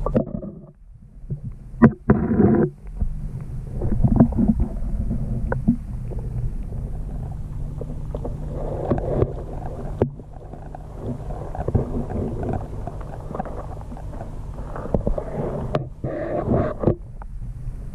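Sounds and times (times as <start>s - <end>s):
water bubbling and gurgling: 0.0s - 17.3s
low pump hum: 0.0s - 17.9s.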